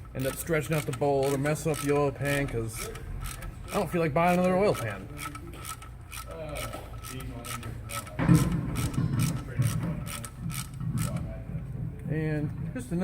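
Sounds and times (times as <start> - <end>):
hand ratchet clicking: 0.0 - 11.2.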